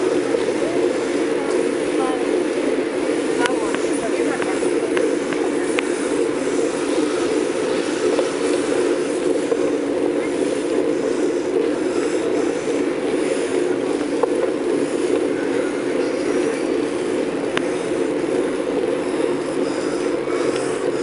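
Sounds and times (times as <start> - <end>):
bike rolling on pavement: 0.0 - 21.0.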